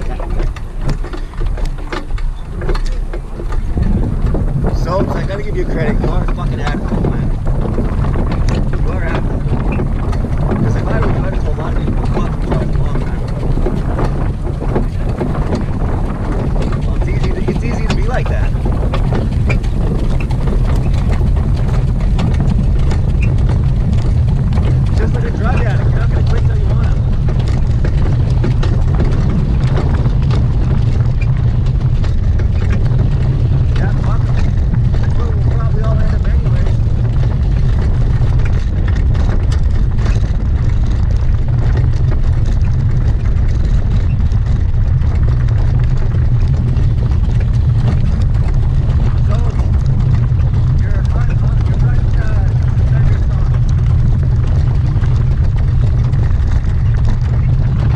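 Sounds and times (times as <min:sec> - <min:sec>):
horse hoofbeats clattering: 0:00.0 - 0:57.9
wind rumble on microphone: 0:00.0 - 0:57.9.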